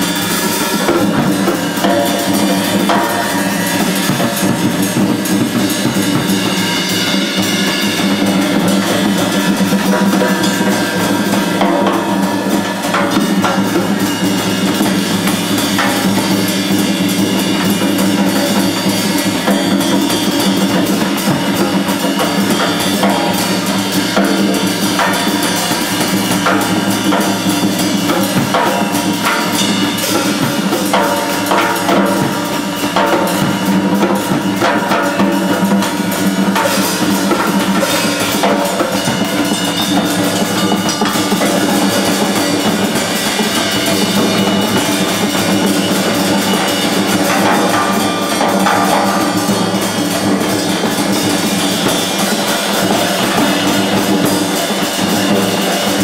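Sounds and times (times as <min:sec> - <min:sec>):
drums struck with sticks: 0:00.0 - 0:56.0
live band music: 0:00.0 - 0:56.0.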